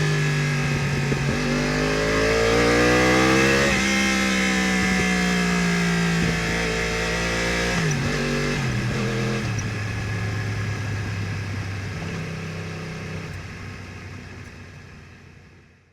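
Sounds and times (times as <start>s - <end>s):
motorcycle engine: 0.0s - 15.9s.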